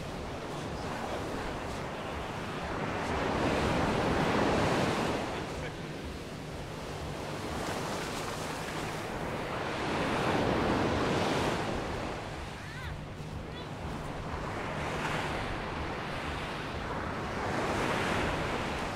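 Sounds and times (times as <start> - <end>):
small waves breaking on sand: 0.0 - 18.9.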